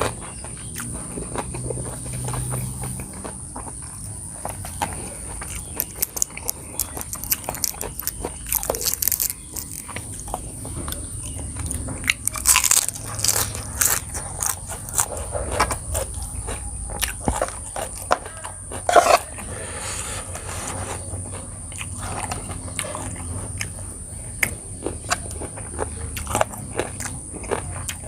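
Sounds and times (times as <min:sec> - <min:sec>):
person crunching and chewing food: 0:00.0 - 0:28.0.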